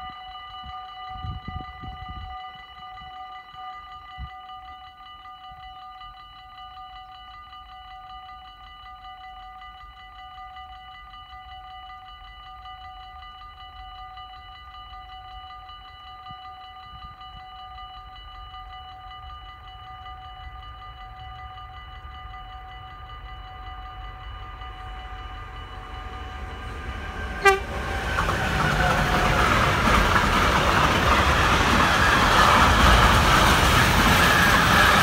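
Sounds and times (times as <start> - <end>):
level crossing warning bells: 0.0 - 35.0.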